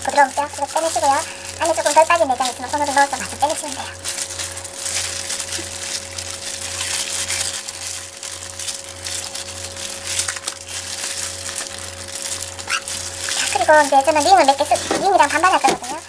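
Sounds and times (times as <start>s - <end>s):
faint hum: 0.0s - 16.0s
plastic gloves crinkling: 0.0s - 16.0s.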